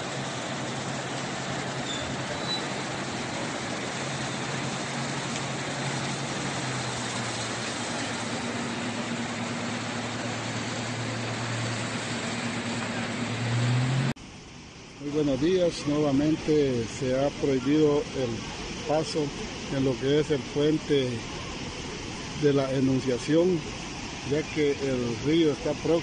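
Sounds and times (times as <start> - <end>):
rushing floodwater: 0.0 - 14.2, 14.8 - 26.0
vehicle engine humming: 0.0 - 26.0.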